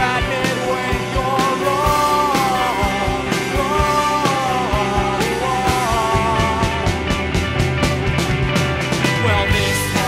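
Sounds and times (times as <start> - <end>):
indie rock song: 0.0 - 10.0.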